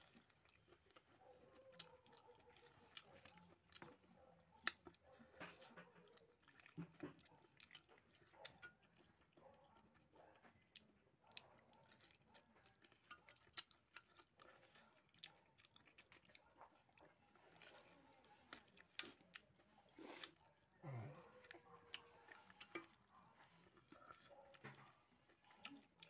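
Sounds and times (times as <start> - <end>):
faint chewing and biting: 0.0 - 26.0.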